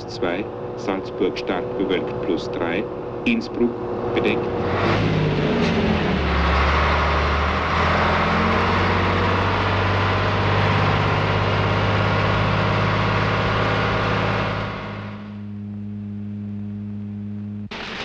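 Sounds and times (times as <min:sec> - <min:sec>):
diesel truck engine drone: 0:00.0 - 0:18.0.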